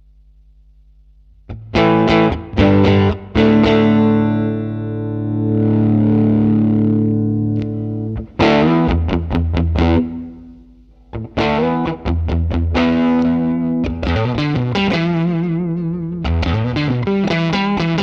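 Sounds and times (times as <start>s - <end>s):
distorted electric guitar: 1.5s - 18.0s.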